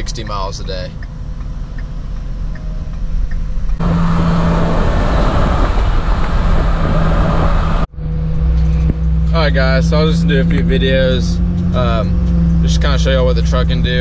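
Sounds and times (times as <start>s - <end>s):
pickup engine drone: 0.0s - 14.0s
wind and road noise: 0.0s - 14.0s.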